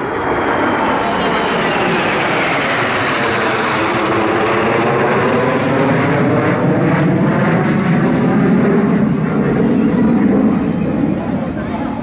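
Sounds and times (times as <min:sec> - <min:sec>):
jets passing overhead: 0:00.0 - 0:12.0.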